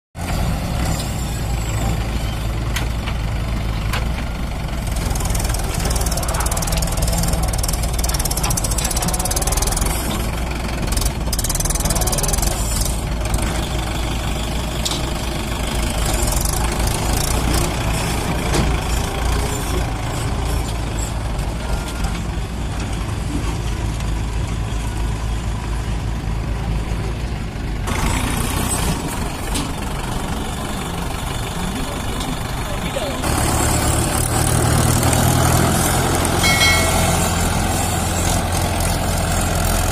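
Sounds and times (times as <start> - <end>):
tractor diesel engine under load: 0.2 - 39.9.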